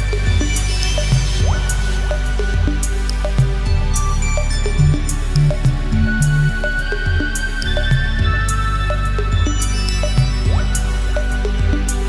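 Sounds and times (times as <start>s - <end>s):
sustained background music tones: 0.0s - 12.0s.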